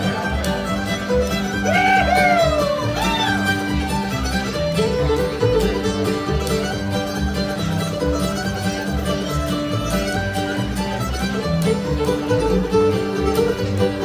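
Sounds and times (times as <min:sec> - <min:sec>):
fiddle sliding between notes: 0:00.0 - 0:14.0
string band playing fiddle tune: 0:00.0 - 0:14.0.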